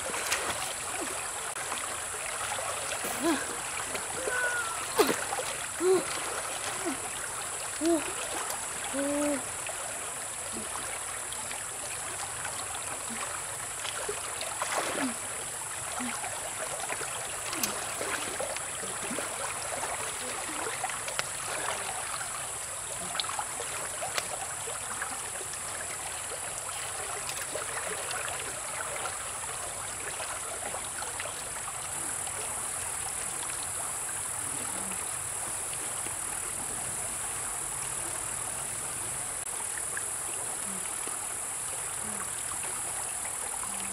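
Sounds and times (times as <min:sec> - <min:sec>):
stream flowing over rocks: 0:00.0 - 0:43.9
water trickling and splashing: 0:00.0 - 0:43.9.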